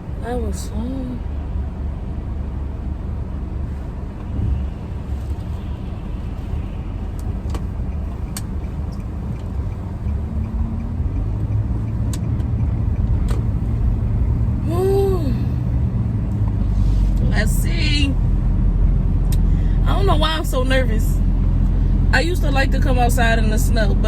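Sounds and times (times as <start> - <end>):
car engine and tyres rumble: 0.0 - 24.0.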